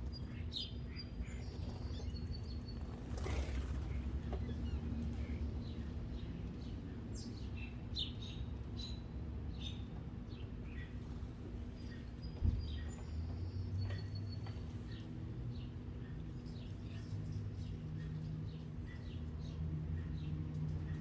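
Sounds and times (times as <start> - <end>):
low background hum: 0.0 - 21.0
small birds chirping: 0.0 - 21.0.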